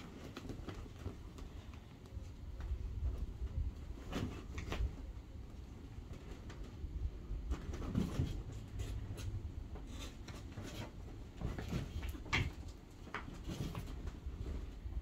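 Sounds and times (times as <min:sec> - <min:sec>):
cats scuffling on fabric: 0:00.0 - 0:15.0.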